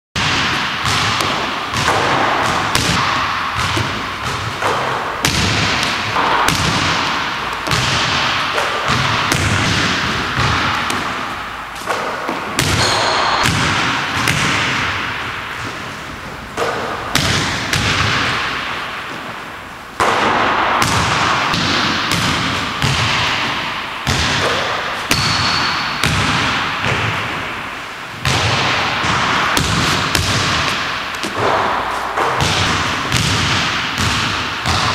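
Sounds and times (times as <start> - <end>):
basketball bouncing on hardwood floor: 0.2 - 11.2, 11.8 - 15.0, 16.6 - 18.4, 20.8 - 27.2, 28.2 - 34.9
basketball hitting hoop: 0.2 - 19.4, 20.0 - 34.9.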